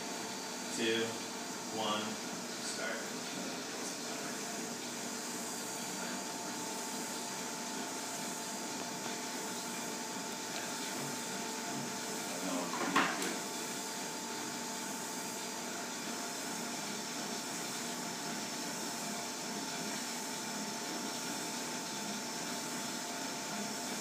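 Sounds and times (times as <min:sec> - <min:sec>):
exercise bike whirring: 0:00.0 - 0:24.0
lab equipment hum: 0:00.0 - 0:24.0.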